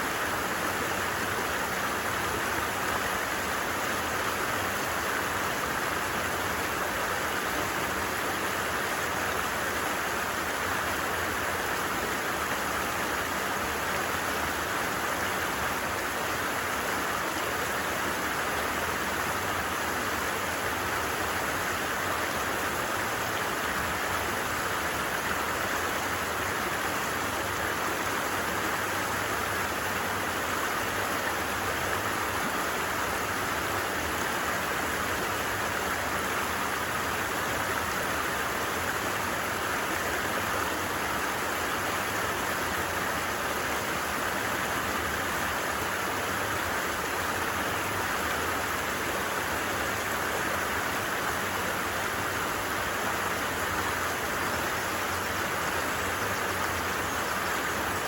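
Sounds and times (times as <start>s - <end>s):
creek flowing: 0.0s - 58.0s.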